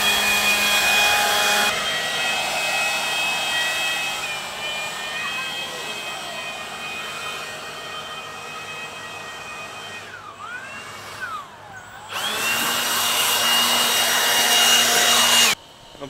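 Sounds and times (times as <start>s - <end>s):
leaf blower motor whine: 0.0s - 16.0s.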